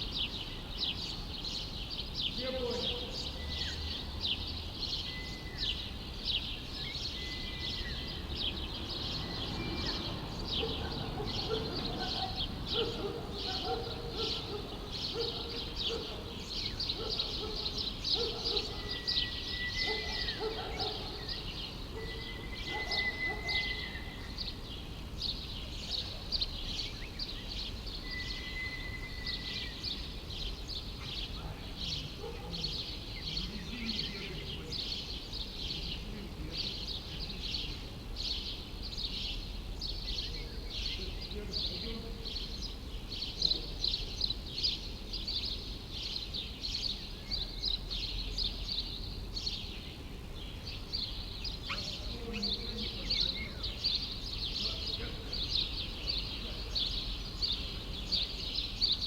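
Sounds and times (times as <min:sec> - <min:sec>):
city background hum: 0:00.0 - 0:59.0
small birds chirping: 0:00.0 - 0:59.0.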